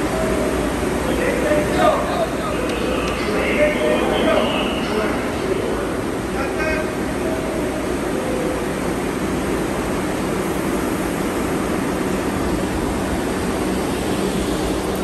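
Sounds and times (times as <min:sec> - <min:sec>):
subway train rushing hum: 0:00.0 - 0:15.0.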